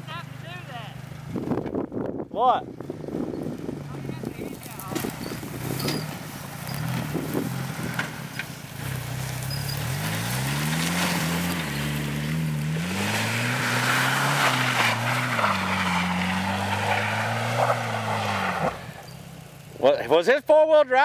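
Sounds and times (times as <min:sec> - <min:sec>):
truck engine revving: 0:02.8 - 0:19.9.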